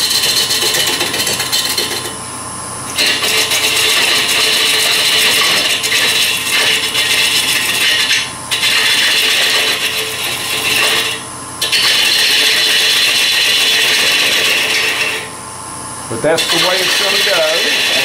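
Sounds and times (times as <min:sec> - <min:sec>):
bowl scraper scraping wood: 0:00.0 - 0:02.2, 0:02.9 - 0:15.4, 0:16.1 - 0:18.0
wood lathe running: 0:00.0 - 0:02.2, 0:02.9 - 0:15.4, 0:16.1 - 0:18.0.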